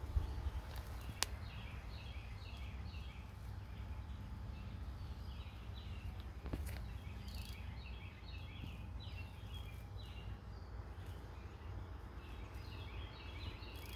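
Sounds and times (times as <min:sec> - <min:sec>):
low microphone rumble: 0:00.0 - 0:13.7.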